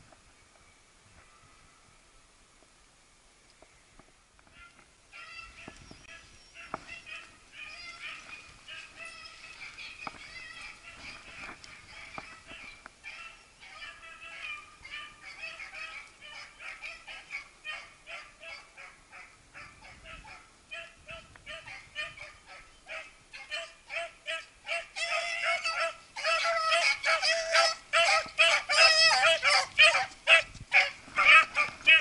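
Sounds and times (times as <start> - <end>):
beagles baying: 4.4 - 32.0.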